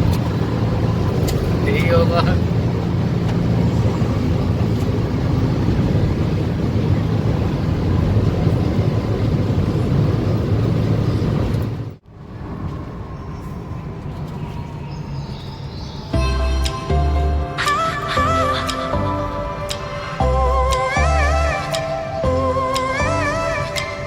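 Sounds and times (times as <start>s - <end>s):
car engine and tyre noise: 0.0s - 24.0s
road noise: 0.0s - 24.0s.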